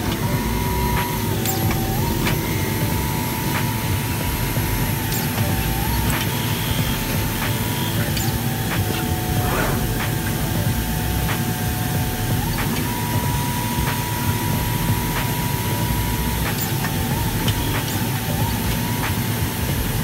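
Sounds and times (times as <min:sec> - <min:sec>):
fabric cutting machine running: 0:00.0 - 0:20.0
thin machine whine: 0:00.0 - 0:20.0.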